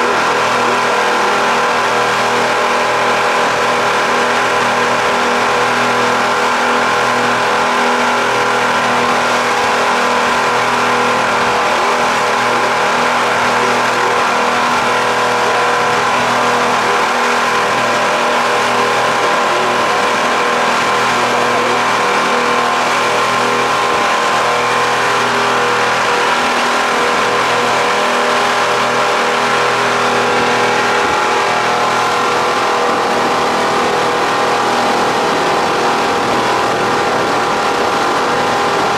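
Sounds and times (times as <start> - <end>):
motorboat engine droning: 0.0 - 38.9
water rushing past hull: 0.0 - 38.9.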